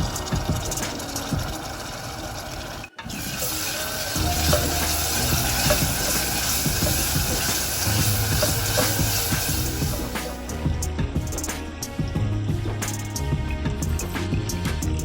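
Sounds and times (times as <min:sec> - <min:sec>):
water running: 0:00.0 - 0:13.1.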